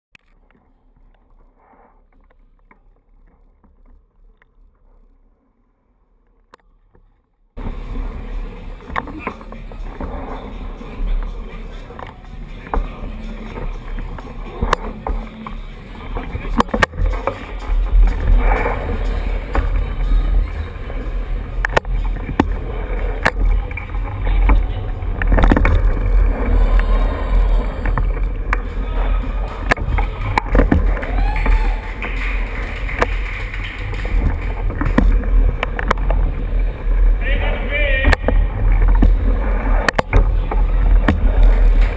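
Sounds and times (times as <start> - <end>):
handled camera rumble: 6.2 - 41.9.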